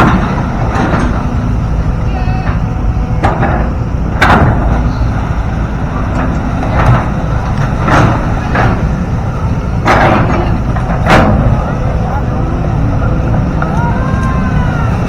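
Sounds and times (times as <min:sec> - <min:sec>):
machine knocks and clanks: 0:00.0 - 0:14.4
excavator diesel engine running: 0:00.0 - 0:15.0.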